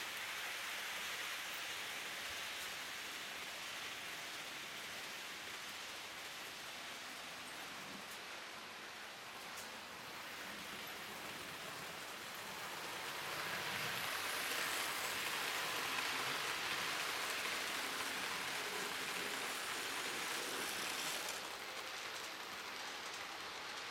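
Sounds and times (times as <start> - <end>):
model train wheels on rails: 0.0 - 23.9.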